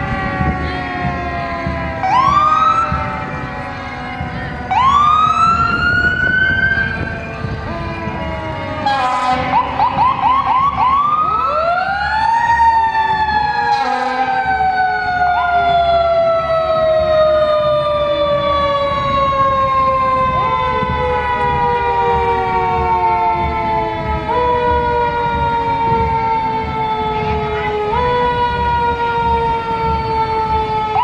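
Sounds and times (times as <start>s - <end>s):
fire engine siren: 0.0s - 31.0s.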